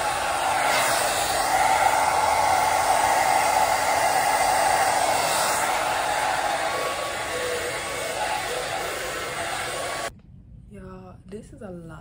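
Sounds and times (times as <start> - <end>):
hair dryer blowing: 0.0 - 10.1.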